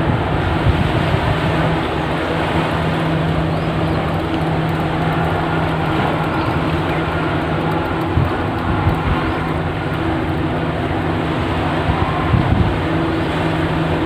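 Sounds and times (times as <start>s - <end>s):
ship machinery hum: 0.0s - 14.0s
small waves washing on shore: 0.0s - 14.0s
wind on microphone: 0.0s - 14.0s.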